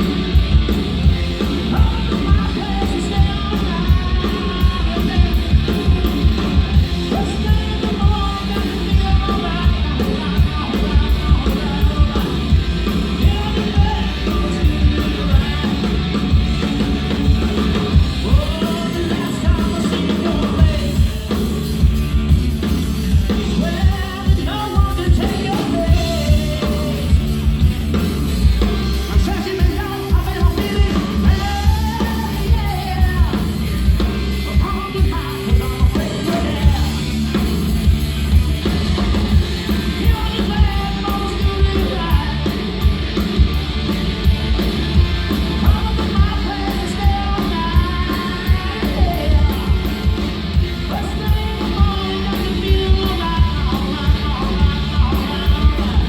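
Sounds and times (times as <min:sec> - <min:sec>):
person singing lead vocals: 0:00.0 - 0:43.6, 0:44.3 - 0:56.0
bass: 0:00.0 - 0:56.0
drum-kit beat: 0:00.0 - 0:56.0
guitar: 0:00.0 - 0:56.0.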